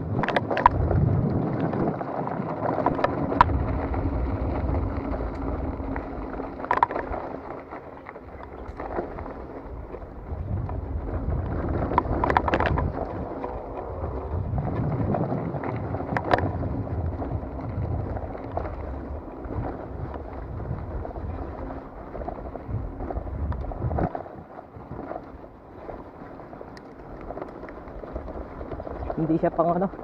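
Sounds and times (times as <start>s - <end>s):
bike knocking and rattling: 0.0s - 30.0s
bike tyres rumbling on dirt: 0.0s - 30.0s
wind buffeting microphone: 0.0s - 30.0s.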